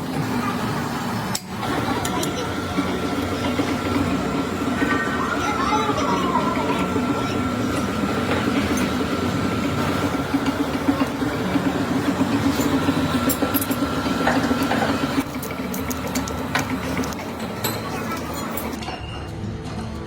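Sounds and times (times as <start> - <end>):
machine rattling hum: 0.0 - 20.0.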